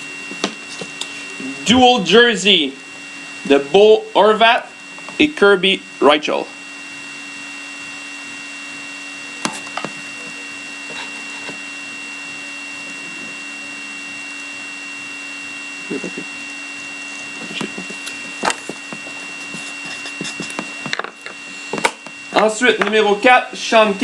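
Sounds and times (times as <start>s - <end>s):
electrical hum: 0.0s - 24.0s
faint high whine: 0.0s - 24.0s.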